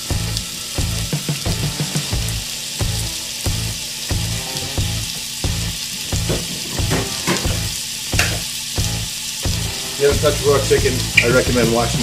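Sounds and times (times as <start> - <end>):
background music with a steady beat: 0.0 - 12.0
chicken sizzling in a pan: 0.0 - 12.0.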